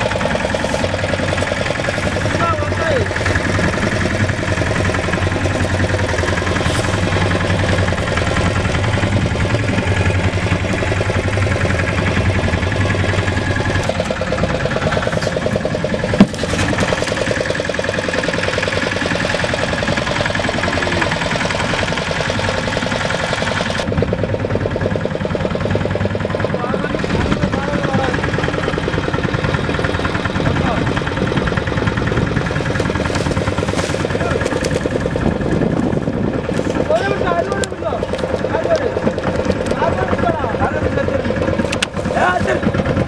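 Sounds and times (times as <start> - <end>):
boat engine chugging: 0.0 - 43.0.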